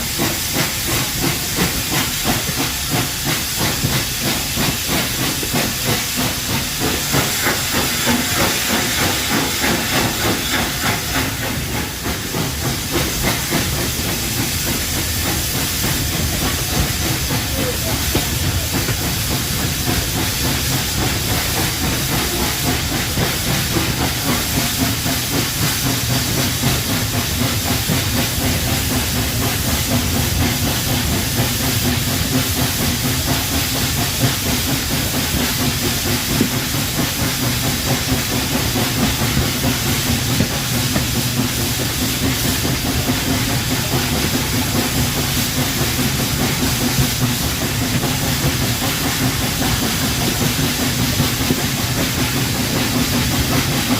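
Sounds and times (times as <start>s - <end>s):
hiss of escaping steam: 0.0s - 53.9s.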